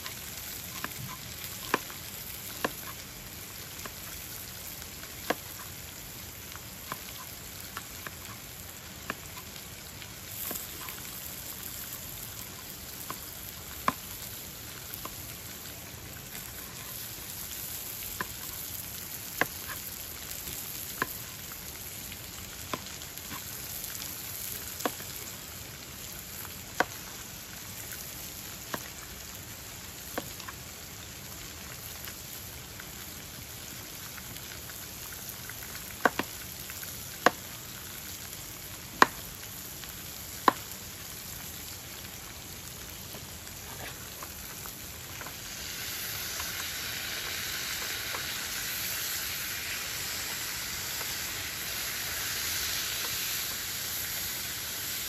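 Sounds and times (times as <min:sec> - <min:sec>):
meat sizzling in a frying pan: 0:00.0 - 0:55.0.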